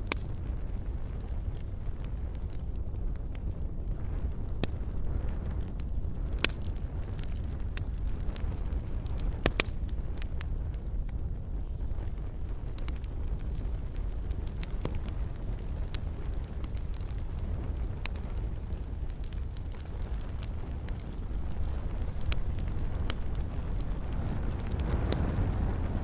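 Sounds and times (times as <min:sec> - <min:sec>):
fire crackling and popping: 0:00.0 - 0:26.0
wood fire rumbling: 0:00.0 - 0:26.0.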